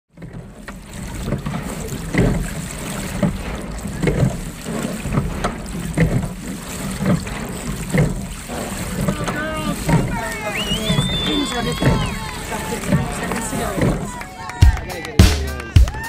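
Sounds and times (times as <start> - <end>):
wind buffeting microphone: 0.4 - 14.6.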